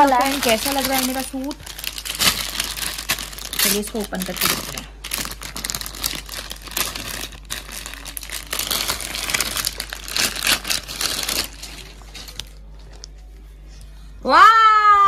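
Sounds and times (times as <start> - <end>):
plastic packaging crinkling: 0.0 - 13.3.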